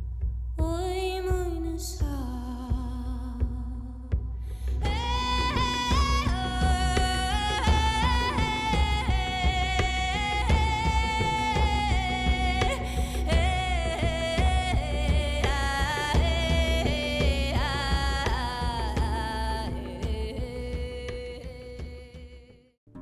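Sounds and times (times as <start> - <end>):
pulsing bass: 1.4 - 22.4.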